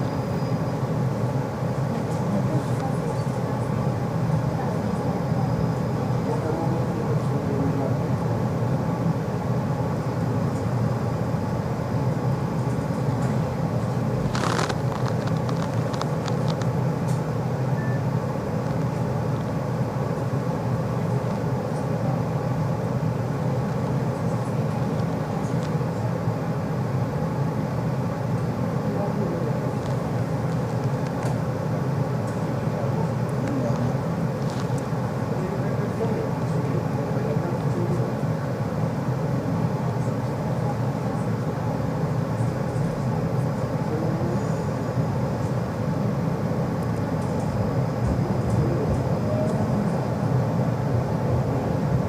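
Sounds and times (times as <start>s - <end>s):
tram rumbling: 0.0s - 52.0s.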